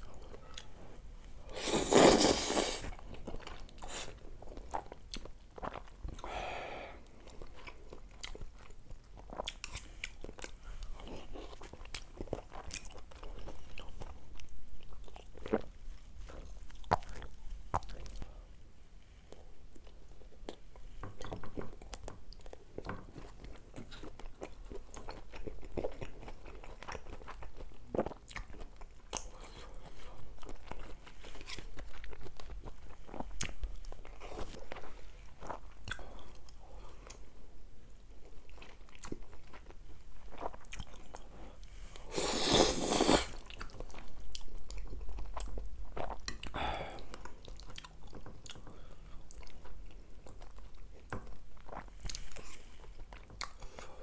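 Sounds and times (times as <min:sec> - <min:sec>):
chewing and biting food: 0:00.0 - 0:06.3, 0:07.1 - 0:18.2, 0:19.8 - 0:37.2, 0:38.1 - 0:54.0.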